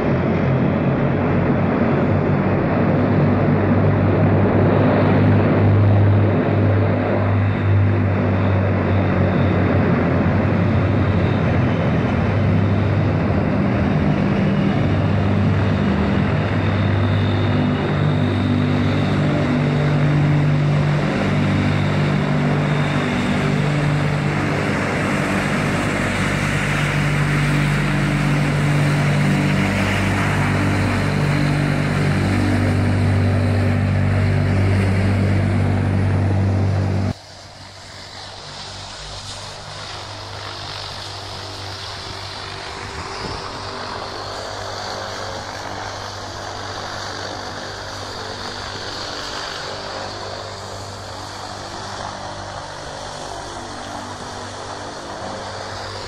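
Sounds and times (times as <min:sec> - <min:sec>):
turboprop aircraft propeller drone: 0:00.0 - 0:56.0.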